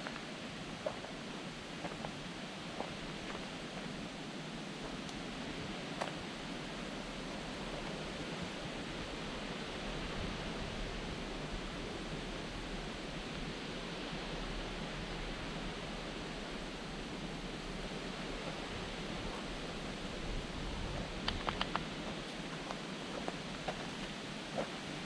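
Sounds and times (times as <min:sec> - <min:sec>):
outdoor ambient noise: 0:00.0 - 0:25.0.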